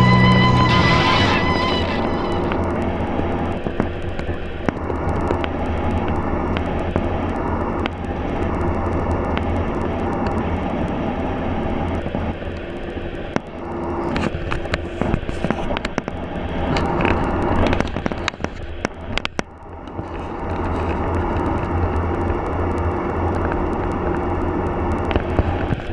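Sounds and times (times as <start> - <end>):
clicks and crackles: 0.0 - 25.9
road and engine drone: 0.0 - 25.9.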